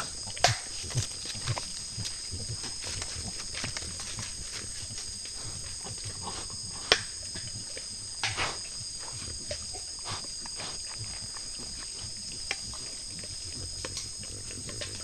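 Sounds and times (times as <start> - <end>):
animals foraging in leaf litter: 0.0 - 15.0
crunching rustle: 0.0 - 15.0
night insects trilling: 0.0 - 15.0.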